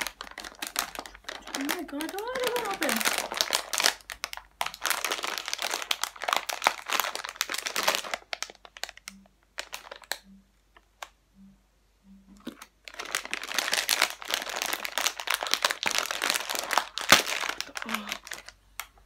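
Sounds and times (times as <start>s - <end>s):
plastic bag crinkling: 0.0s - 10.2s, 12.4s - 18.9s.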